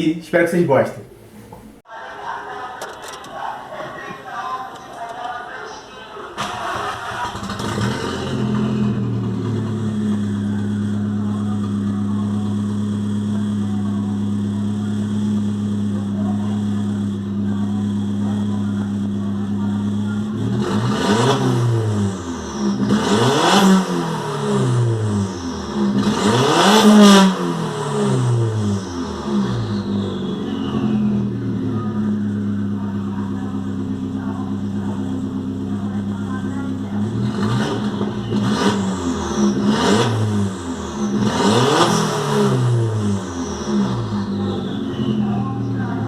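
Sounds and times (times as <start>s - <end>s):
car engine idling: 6.4s - 46.0s
engine revving hard: 6.4s - 46.0s.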